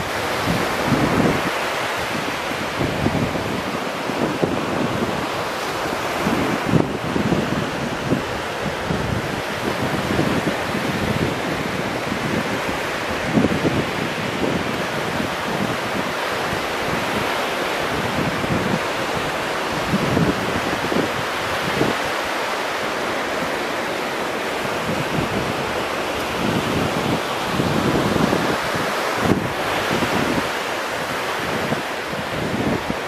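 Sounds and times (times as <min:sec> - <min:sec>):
small waves breaking on beach: 0:00.0 - 0:33.0
wind buffeting microphone: 0:00.0 - 0:33.0.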